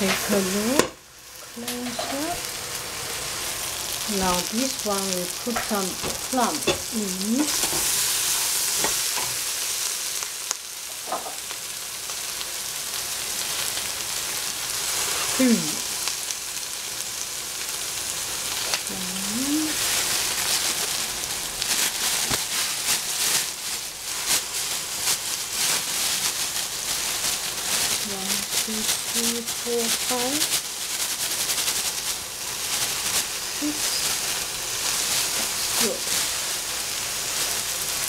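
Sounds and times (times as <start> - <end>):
eggplant sizzling in a pot: 0.0 - 38.0.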